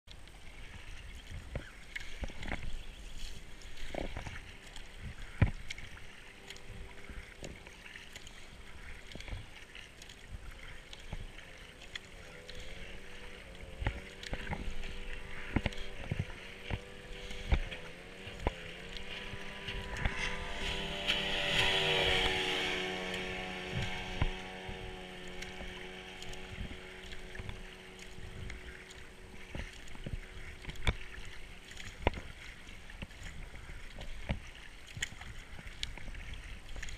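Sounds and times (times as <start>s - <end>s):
paddle strokes splashing: 0.1s - 36.9s
powerboat engine: 0.2s - 36.9s.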